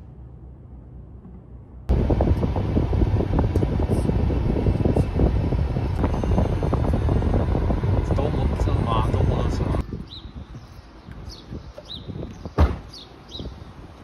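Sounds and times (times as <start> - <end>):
road and wind noise in car: 0.0 - 14.0.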